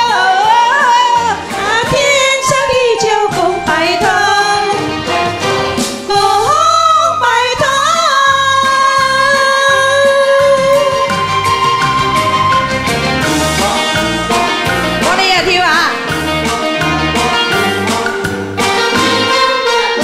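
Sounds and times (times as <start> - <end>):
women singing pop duet: 0.0 - 19.4
backing music: 0.0 - 20.0.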